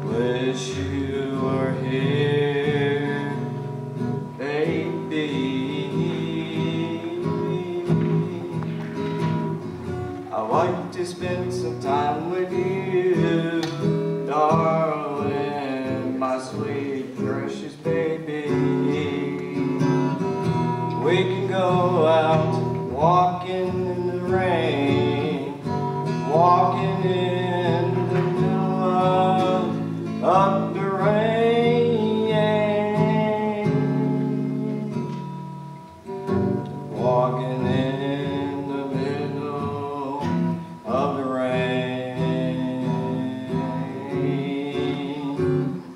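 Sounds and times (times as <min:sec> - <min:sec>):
man singing: 0:00.0 - 0:35.6, 0:36.2 - 0:45.9
acoustic guitar: 0:00.0 - 0:45.9.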